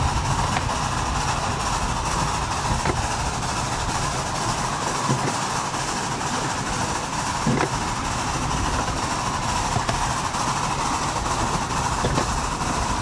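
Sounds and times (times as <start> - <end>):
miniature steam locomotive running: 0.0 - 13.0
wheels clicking on track: 0.0 - 13.0.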